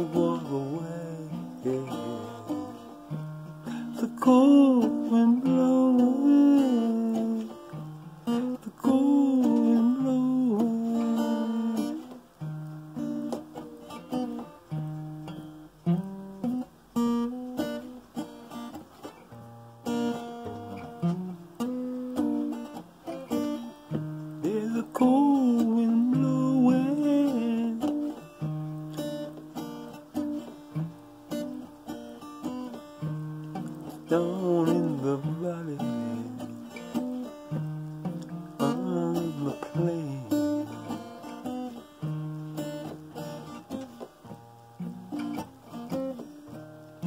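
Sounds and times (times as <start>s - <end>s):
acoustic guitar playing: 0.0s - 47.0s.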